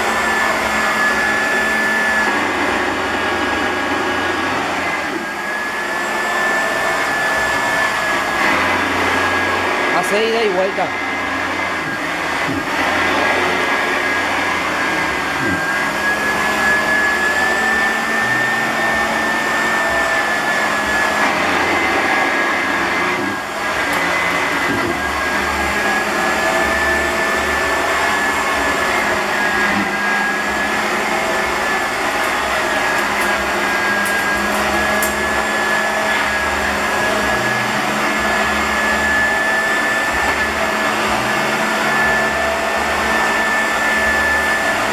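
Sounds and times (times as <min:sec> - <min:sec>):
vacuum cleaner on carpet: 0:00.0 - 0:44.9.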